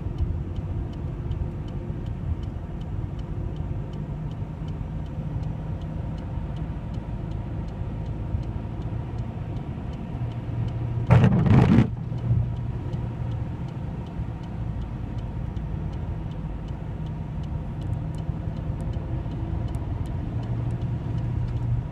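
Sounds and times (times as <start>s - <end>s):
car engine and tyre rumble: 0.0s - 21.9s.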